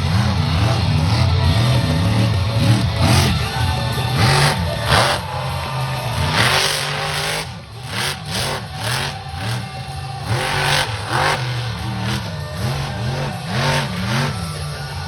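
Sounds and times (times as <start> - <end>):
loud exhaust blasts: 0.0 - 15.0
truck engine revving: 0.0 - 15.0.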